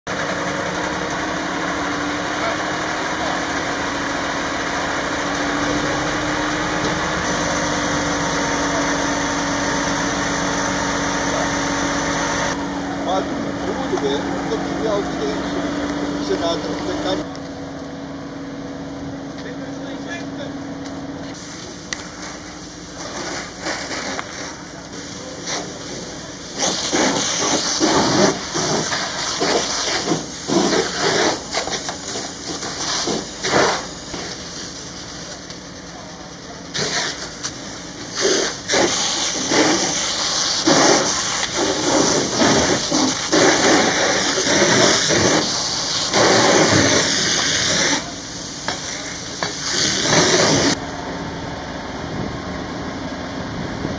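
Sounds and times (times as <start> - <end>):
fire engine running: 0.0 - 53.9.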